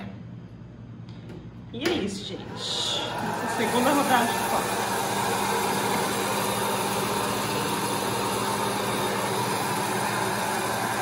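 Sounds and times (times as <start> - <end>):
popcorn maker whirring: 2.1 - 11.0.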